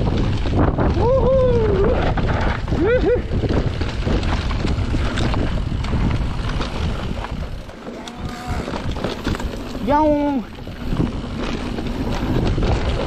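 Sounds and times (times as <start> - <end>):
mountain bike rattling: 0.0 - 13.0
wind on microphone: 0.0 - 13.0
bike knocks and clicks: 2.0 - 13.0.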